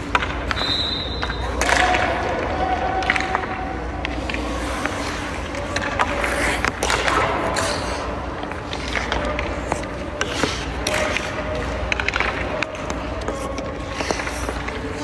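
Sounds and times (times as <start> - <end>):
skates scraping on ice: 0.0 - 15.0
sticks striking pucks: 0.0 - 15.0.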